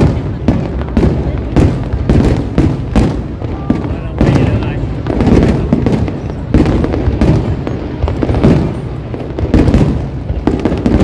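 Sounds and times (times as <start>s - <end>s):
firework crackling: 0.0s - 11.0s
firework shells booming: 0.0s - 11.0s.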